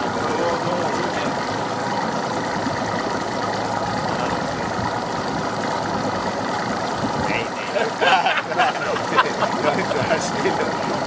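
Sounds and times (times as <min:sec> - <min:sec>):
outboard motors idling: 0:00.0 - 0:11.0.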